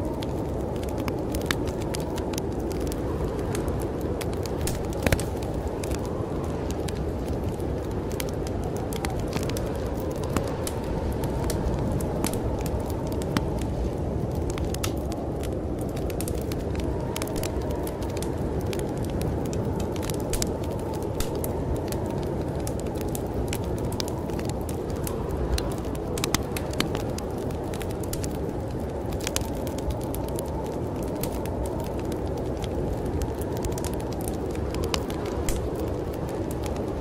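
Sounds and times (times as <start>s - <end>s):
snowstorm wind rushing: 0.0s - 37.0s
wood fire crackling and popping: 0.0s - 37.0s.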